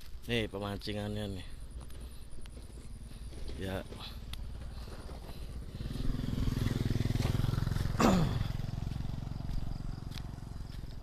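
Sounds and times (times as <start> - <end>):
motorcycle engine passing: 1.5 - 11.0.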